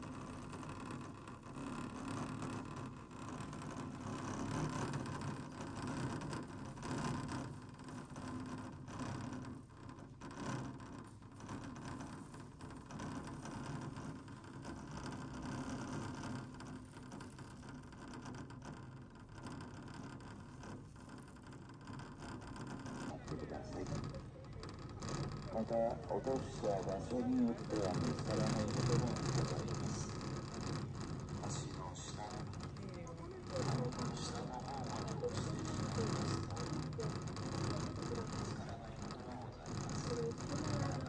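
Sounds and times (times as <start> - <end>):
chairlift mechanical whirring hum: 0.0 - 20.9, 21.9 - 41.0.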